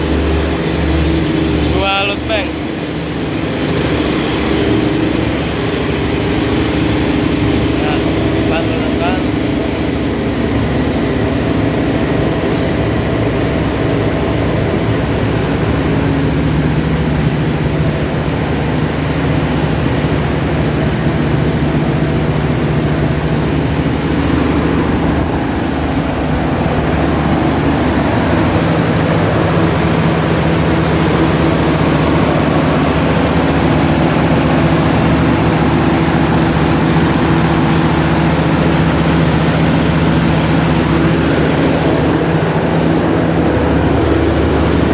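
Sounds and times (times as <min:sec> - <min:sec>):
diesel generator running: 0:00.0 - 0:44.9.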